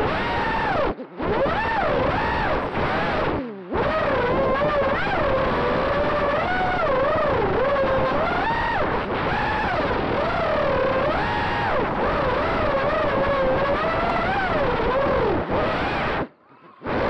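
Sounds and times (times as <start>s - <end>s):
quadcopter motors buzzing whine: 0.0s - 16.3s.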